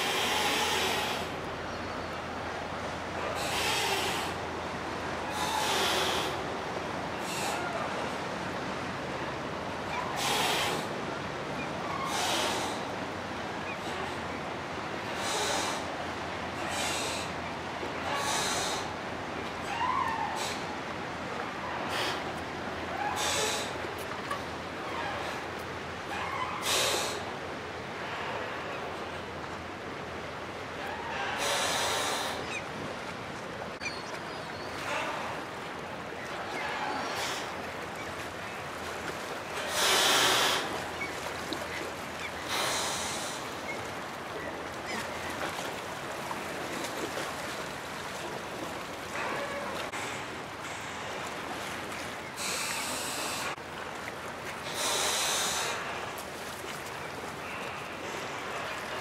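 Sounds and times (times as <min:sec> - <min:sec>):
river water splashing on shore: 0:00.0 - 0:59.0.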